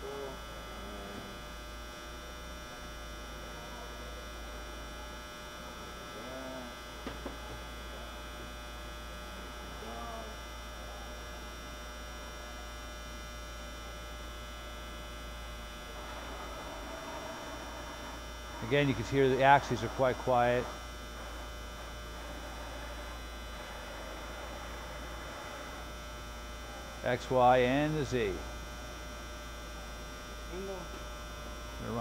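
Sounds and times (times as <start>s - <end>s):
milling machine electrical hum: 0.0s - 32.0s.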